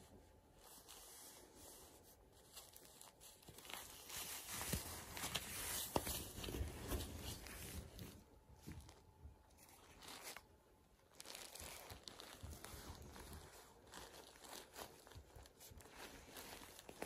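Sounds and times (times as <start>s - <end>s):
diaper rustling and crinkling: 0.0s - 17.0s.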